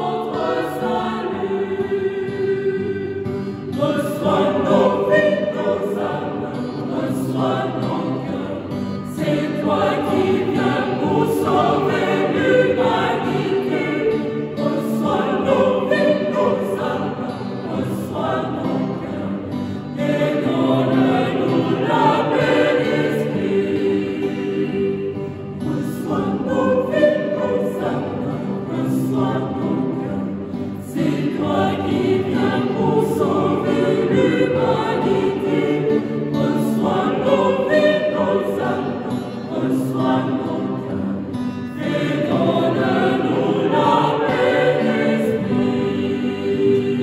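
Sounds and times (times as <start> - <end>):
mixed choir singing a hymn: 0.0 - 47.0.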